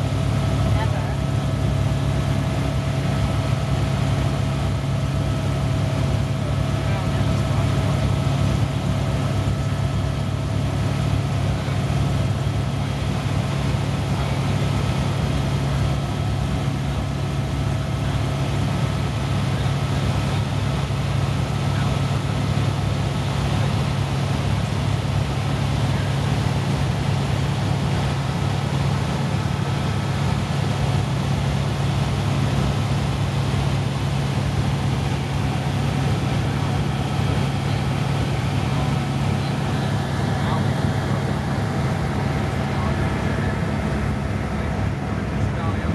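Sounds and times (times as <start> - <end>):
helicopter rotor and engine drone: 0.0 - 45.9.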